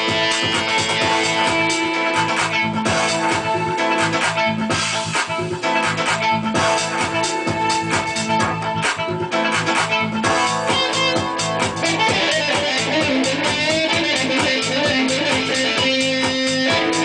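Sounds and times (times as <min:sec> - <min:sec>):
guitar music with bass backing: 0:00.0 - 0:17.0.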